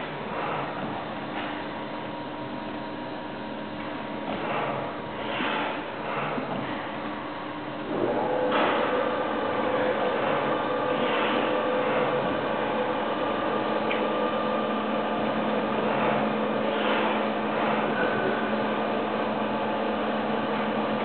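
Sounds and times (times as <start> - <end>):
machine hum with tones: 0.0 - 21.0.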